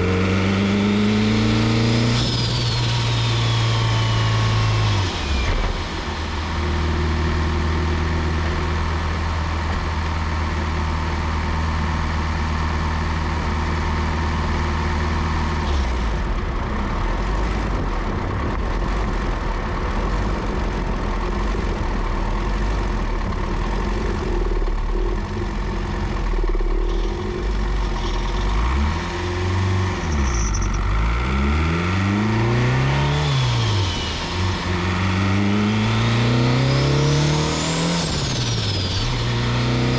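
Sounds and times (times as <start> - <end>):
car engine running and revving: 0.0 - 39.9.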